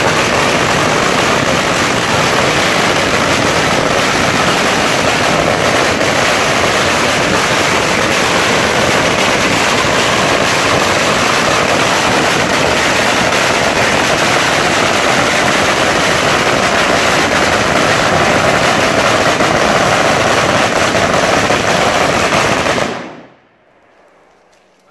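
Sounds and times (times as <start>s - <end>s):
firecrackers crackling: 0.0s - 24.9s.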